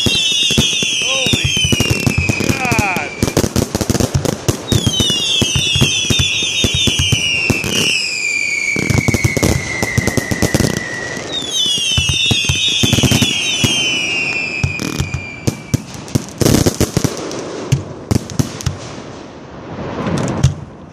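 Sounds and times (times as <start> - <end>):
firework bangs: 0.0 - 20.9
firework crackling: 0.0 - 20.9
whistling firework rockets: 0.0 - 20.9.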